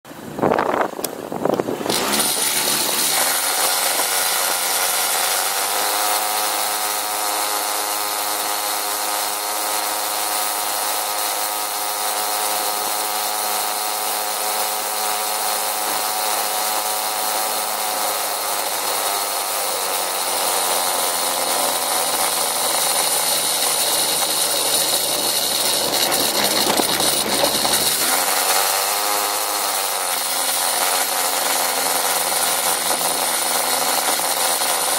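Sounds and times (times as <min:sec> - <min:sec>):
motor scooter engine revving: 0:00.3 - 0:34.9.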